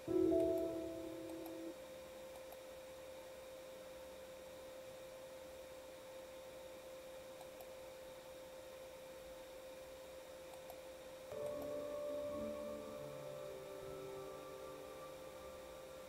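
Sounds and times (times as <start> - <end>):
faint steady tone: 0.0 - 16.0
low hiss: 0.0 - 16.0.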